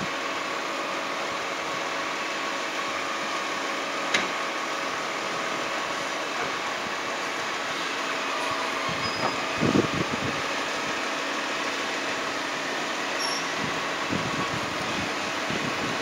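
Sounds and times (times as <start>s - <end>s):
garbage truck running: 0.0s - 16.0s
hydraulics whining: 0.0s - 16.0s.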